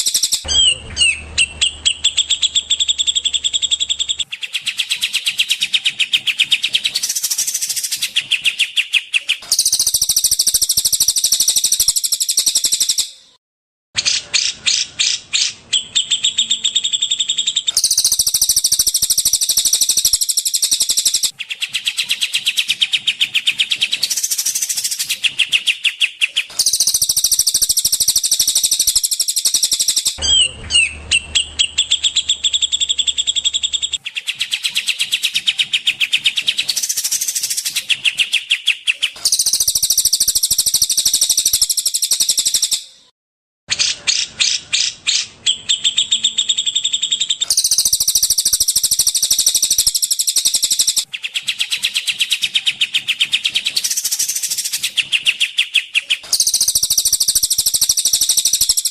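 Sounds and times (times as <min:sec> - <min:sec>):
songbird chirps and trills: 0:00.0 - 0:13.4, 0:14.0 - 0:43.1, 0:43.7 - 0:58.9.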